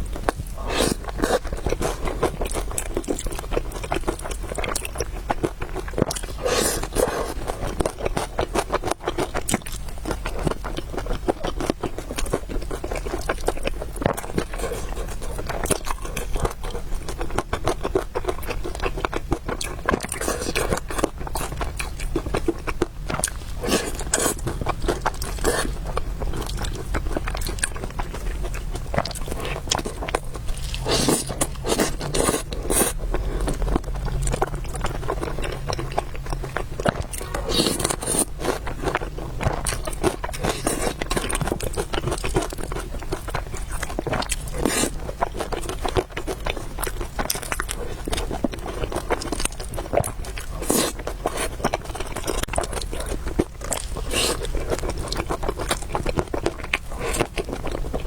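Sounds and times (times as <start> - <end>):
chewing and slurping noodles: 0.0 - 58.0.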